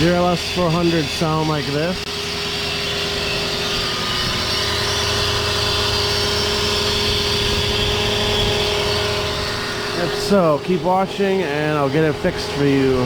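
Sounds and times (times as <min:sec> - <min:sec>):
belt drive whine: 0:00.0 - 0:13.0
car engine idling: 0:00.0 - 0:13.0.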